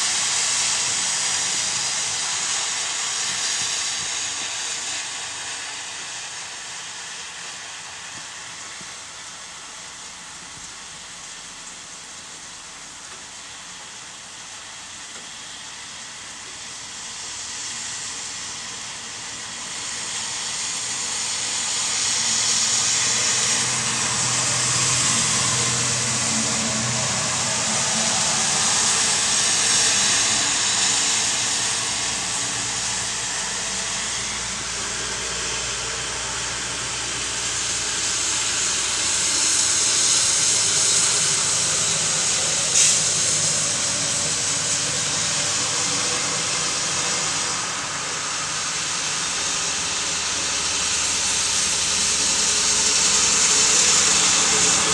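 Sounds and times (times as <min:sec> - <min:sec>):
rain hiss: 0:00.0 - 0:54.9
tyres on wet road: 0:00.0 - 0:54.9.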